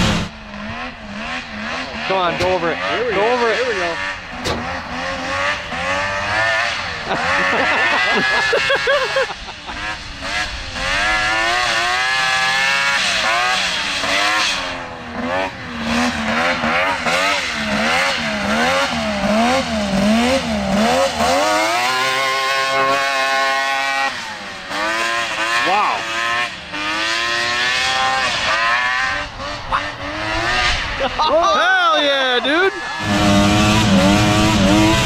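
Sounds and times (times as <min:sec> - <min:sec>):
two-stroke engine revving: 0:00.0 - 0:35.0.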